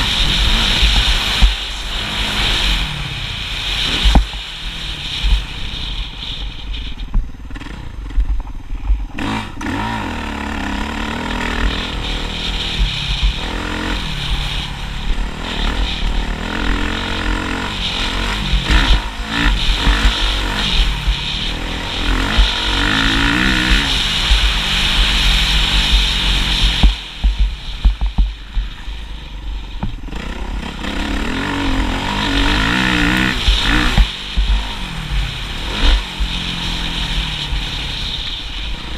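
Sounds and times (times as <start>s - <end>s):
wind rumble on microphone: 0.0s - 10.1s, 11.0s - 38.9s
motorcycle engine revving: 0.0s - 38.9s.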